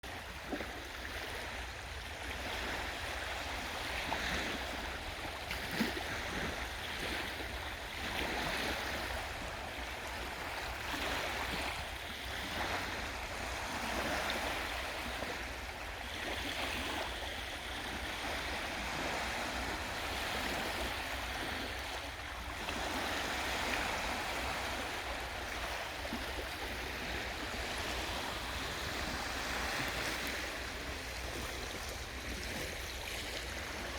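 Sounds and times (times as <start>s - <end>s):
waves washing onto shore: 0.0s - 33.9s.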